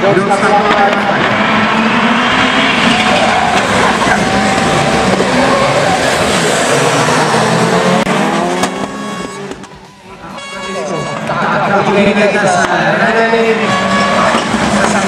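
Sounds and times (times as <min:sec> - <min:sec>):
racing car engines at high revs: 0:00.0 - 0:09.8, 0:12.0 - 0:15.0.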